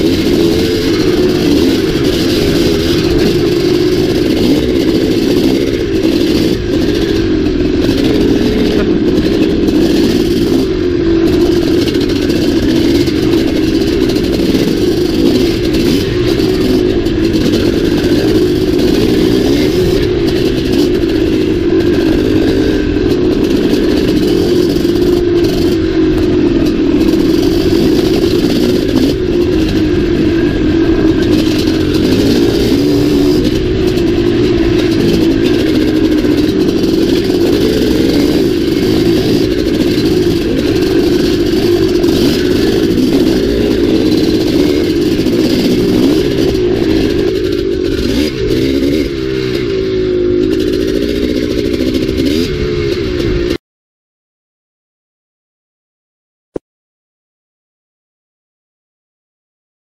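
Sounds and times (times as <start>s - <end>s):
two-stroke dirt bike engine: 0.0s - 53.6s.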